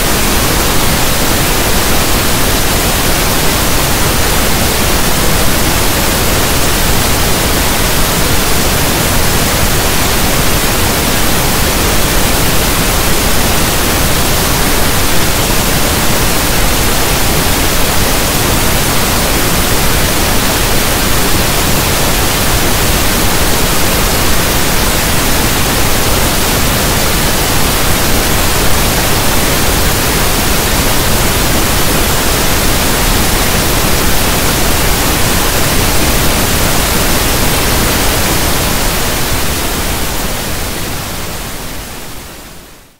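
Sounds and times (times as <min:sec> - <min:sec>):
synthetic pink noise hiss: 0:00.0 - 0:42.9.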